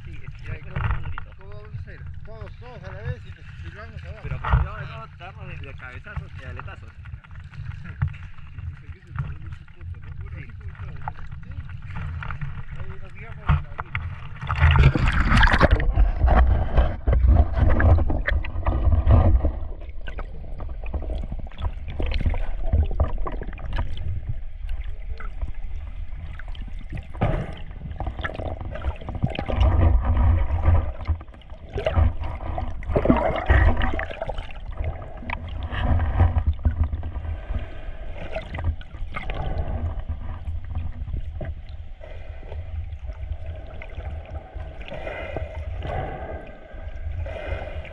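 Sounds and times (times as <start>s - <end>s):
underwater gurgling and rumble: 0.0s - 47.9s
underwater knocks and clicks: 0.0s - 47.9s
water splashing: 0.0s - 47.9s.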